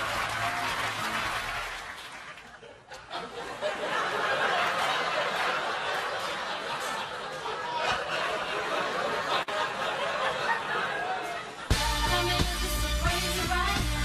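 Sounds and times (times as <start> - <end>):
studio audience laughing: 0.0 - 11.7.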